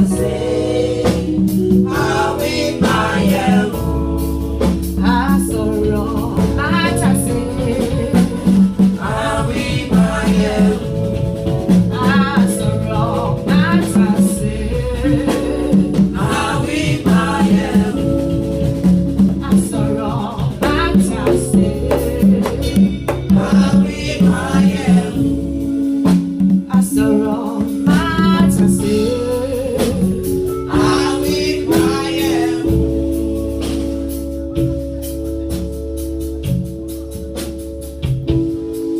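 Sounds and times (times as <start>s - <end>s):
gospel singing: 0.0s - 34.1s
held keyboard chords: 0.0s - 38.9s.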